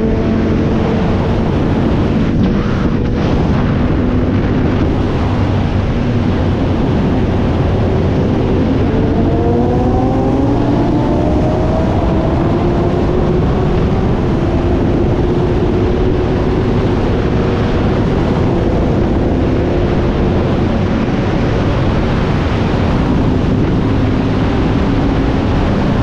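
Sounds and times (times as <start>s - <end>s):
motorcycle engine running: 0.0s - 26.0s
wind rush: 0.0s - 26.0s.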